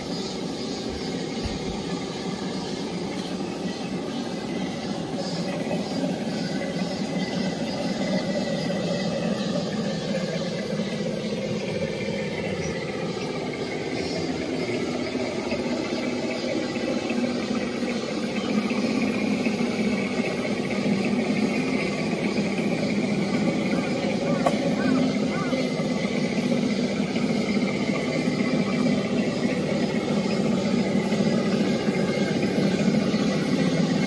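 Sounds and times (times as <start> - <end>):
toy truck motor whine: 0.0 - 34.0.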